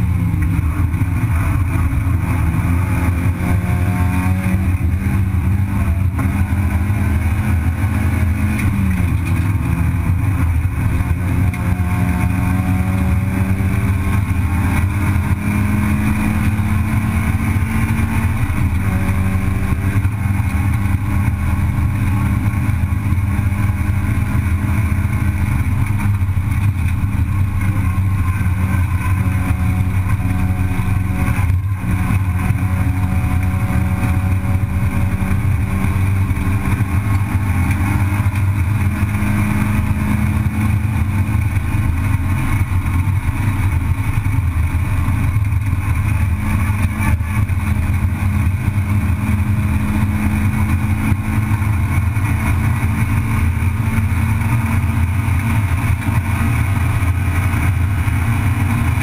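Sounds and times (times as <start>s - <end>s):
car engine accelerating: 0.0s - 59.0s
road and wind noise: 0.0s - 59.0s.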